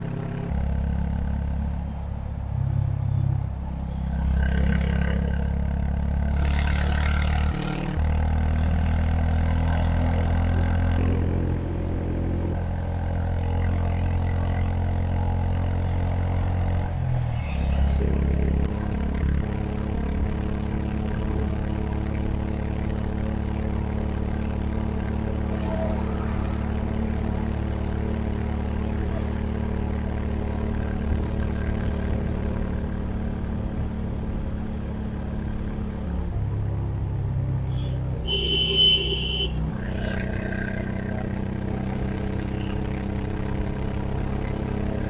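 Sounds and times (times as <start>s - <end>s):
motorcycle engine running: 3.8s - 45.0s.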